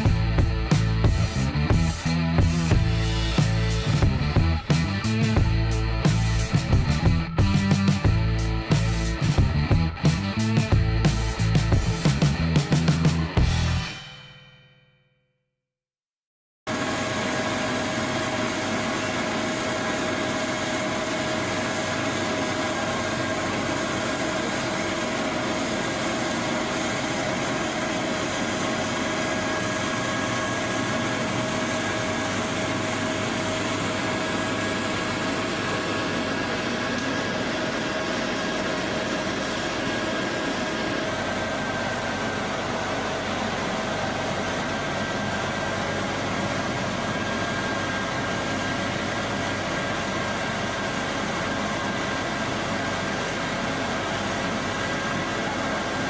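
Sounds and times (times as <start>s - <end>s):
heavy machine engine running: 0.0s - 13.9s, 16.7s - 56.0s
constant whine: 0.0s - 14.0s, 16.7s - 56.0s.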